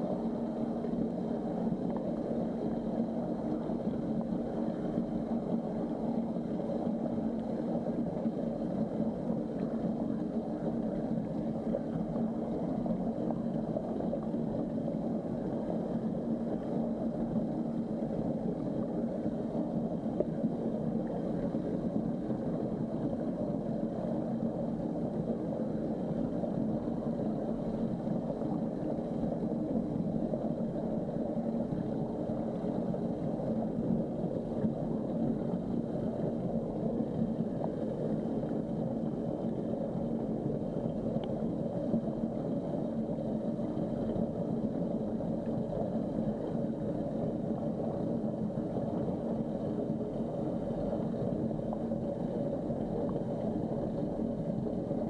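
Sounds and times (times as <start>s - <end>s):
muffled underwater drone: 0.0s - 55.0s.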